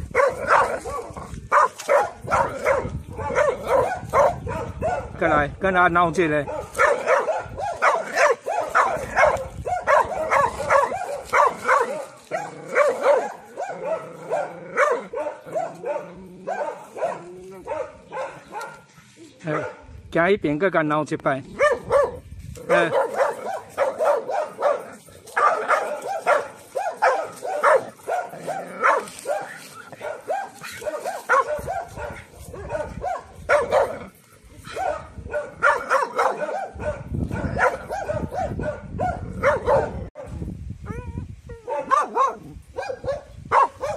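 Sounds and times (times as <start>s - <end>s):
dog barking sharply: 0.2s - 5.1s, 6.4s - 18.9s, 19.5s - 19.8s, 21.6s - 22.2s, 22.8s - 34.0s, 34.7s - 40.0s, 41.7s - 43.9s.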